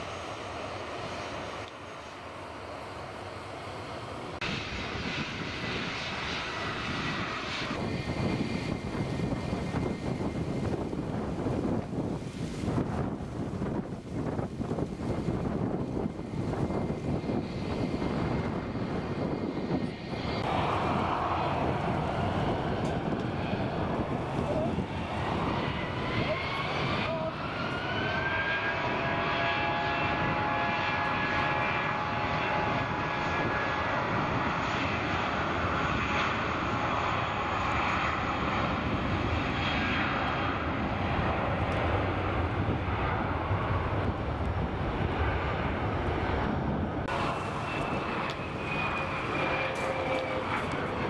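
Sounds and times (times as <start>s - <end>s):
jet engines spooling up: 0.0s - 51.0s
jet whine on approach: 0.0s - 51.0s
wind noise on microphone: 4.4s - 51.0s.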